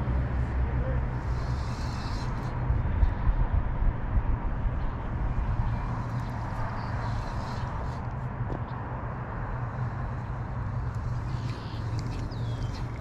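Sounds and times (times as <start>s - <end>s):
wind buffeting microphone: 2.2s - 13.0s.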